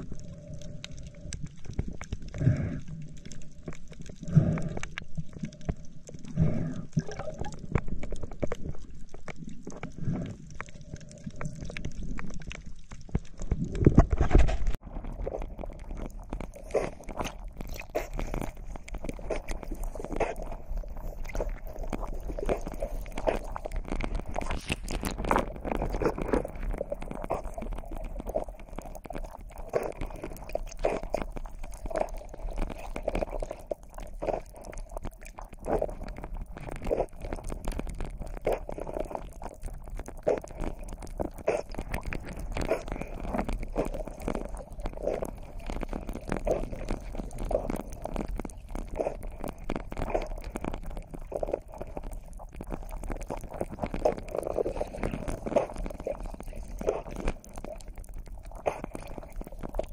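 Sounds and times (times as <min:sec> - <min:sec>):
underwater clicks and crackles: 0:00.0 - 0:59.9.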